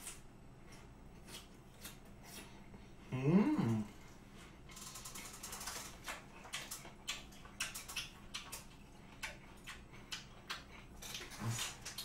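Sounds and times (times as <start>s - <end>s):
wet mouth chewing: 0.0s - 2.6s, 4.7s - 12.0s.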